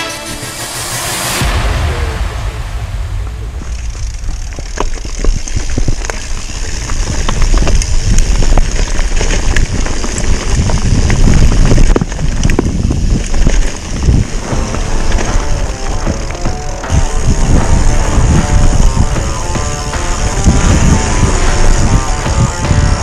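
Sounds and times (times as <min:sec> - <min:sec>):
wind rumble on microphone: 0:01.4 - 0:23.0
tyres crunching on gravel: 0:03.4 - 0:23.0
bike chain and frame rattling: 0:04.0 - 0:23.0.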